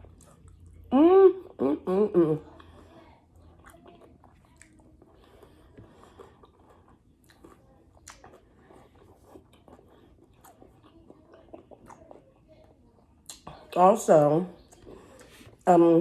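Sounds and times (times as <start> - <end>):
person chewing food: 0.0 - 1.6, 2.4 - 13.8, 14.6 - 15.6.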